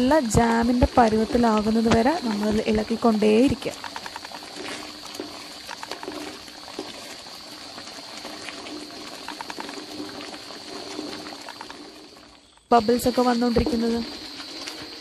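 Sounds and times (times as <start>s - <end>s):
jam bubbles popping: 0.0s - 12.3s
wooden spoon stirring: 0.0s - 15.0s.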